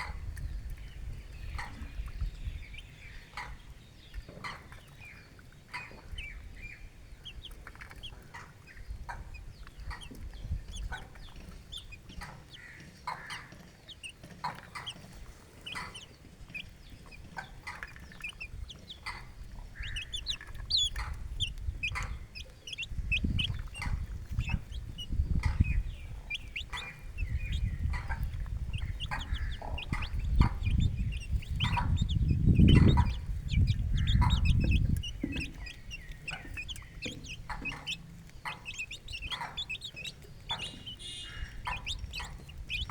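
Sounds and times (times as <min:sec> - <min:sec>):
chicks peeping: 0:00.0 - 0:42.9
hen clucking: 0:00.0 - 0:42.9.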